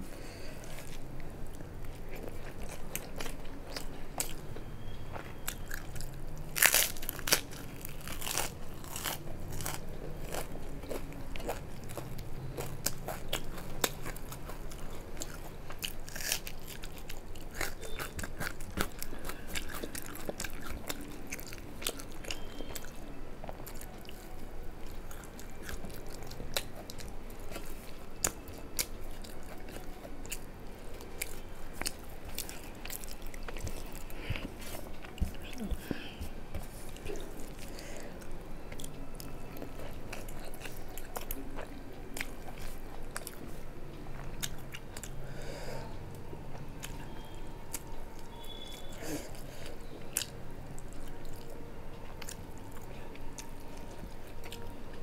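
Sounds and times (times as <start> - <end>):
crunchy chewing: 0.2 - 45.2, 46.8 - 55.0.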